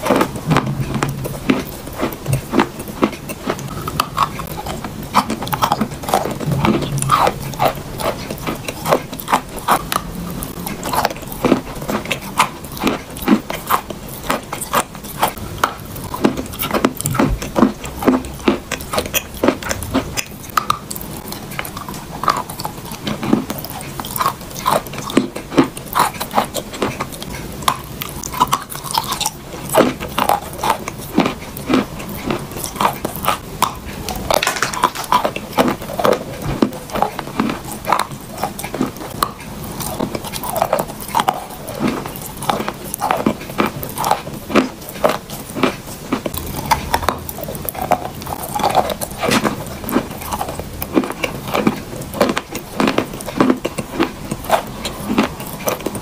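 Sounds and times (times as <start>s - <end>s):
chalk being chewed with crunches: 0.0s - 56.0s.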